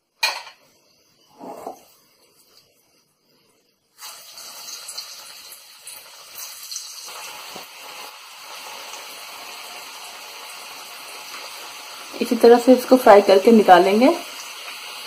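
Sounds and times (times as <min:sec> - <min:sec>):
batter sizzling in hot oil: 0:00.0 - 0:15.0.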